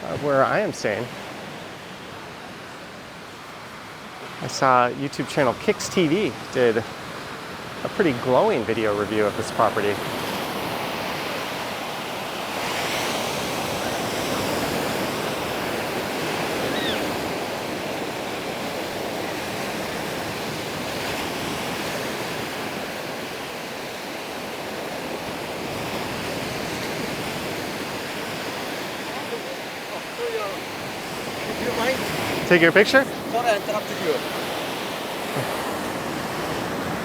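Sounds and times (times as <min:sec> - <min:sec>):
waves washing up a beach: 0:00.0 - 0:37.0.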